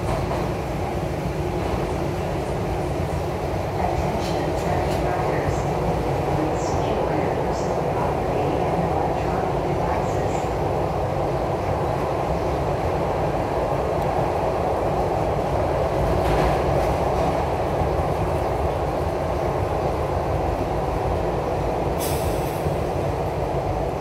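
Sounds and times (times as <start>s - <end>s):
subway train wheels rumbling on rail: 0.0s - 24.0s.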